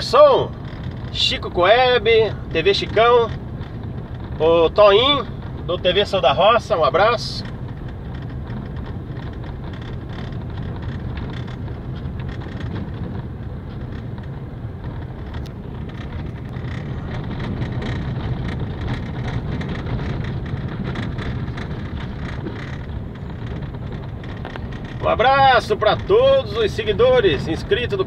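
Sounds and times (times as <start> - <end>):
car engine and road hum: 0.0 - 28.0
tyres ticking on loose gravel: 0.0 - 28.0.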